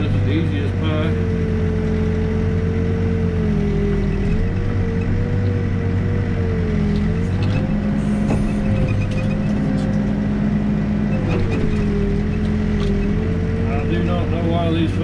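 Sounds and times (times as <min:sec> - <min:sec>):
diesel engine and hydraulics: 0:00.0 - 0:15.0.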